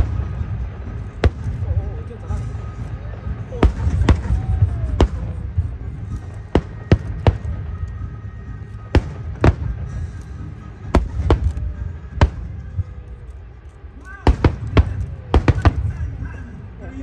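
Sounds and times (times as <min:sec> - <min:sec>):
fireworks bursting: 0:00.0 - 0:16.8
steady low rumble: 0:00.0 - 0:17.0.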